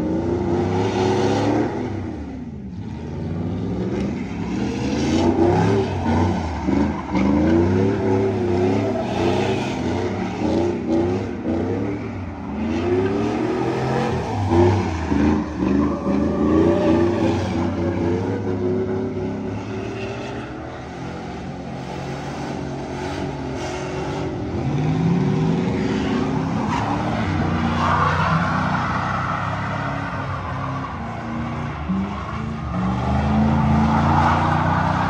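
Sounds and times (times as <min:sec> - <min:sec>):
truck engines revving: 0:00.0 - 0:35.0.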